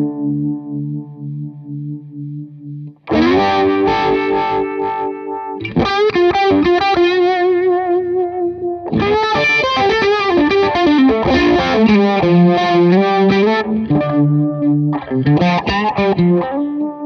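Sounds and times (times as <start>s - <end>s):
electric guitar with vibe effect: 0.0s - 17.0s.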